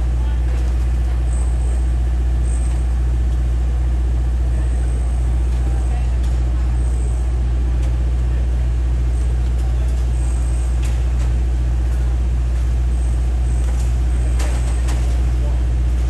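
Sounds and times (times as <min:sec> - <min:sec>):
heavy machinery engine droning: 0:00.0 - 0:16.0.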